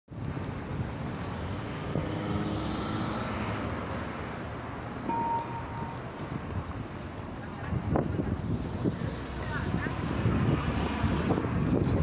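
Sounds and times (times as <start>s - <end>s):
street traffic noise: 0.1s - 12.0s
vehicle passing: 1.0s - 12.0s.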